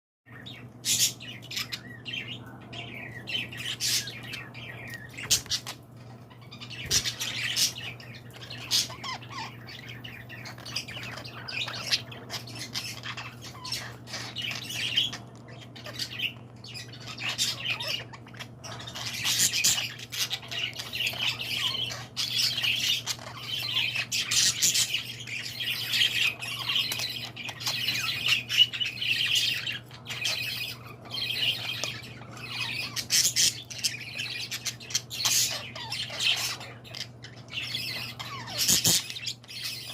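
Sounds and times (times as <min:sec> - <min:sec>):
birds calling: 0:00.3 - 0:39.9.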